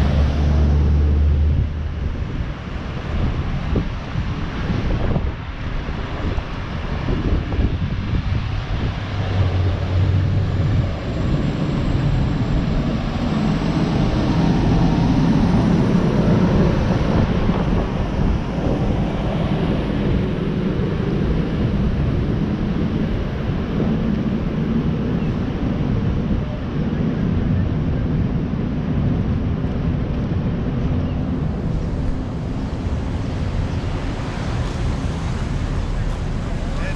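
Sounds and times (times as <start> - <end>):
engine drone: 0.0 - 36.9
wind: 0.0 - 36.9.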